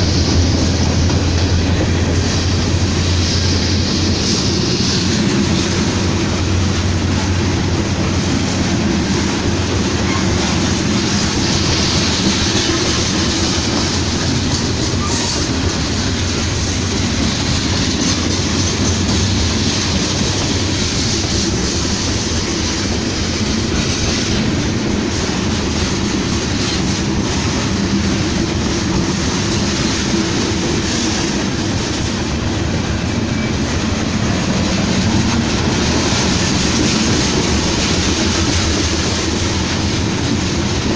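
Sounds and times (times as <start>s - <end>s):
train cars rumbling on rails: 0.0s - 40.9s.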